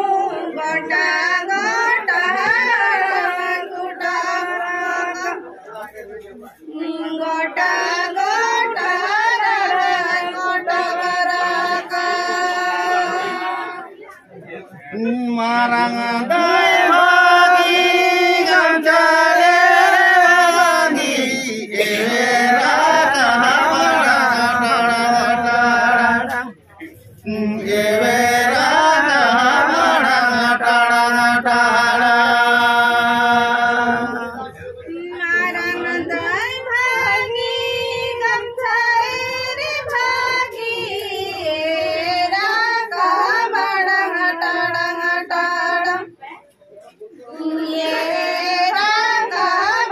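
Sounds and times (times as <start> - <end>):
men singing in unison: 0.0 - 5.3, 6.8 - 13.9, 14.9 - 26.6, 27.2 - 46.0, 47.3 - 49.9.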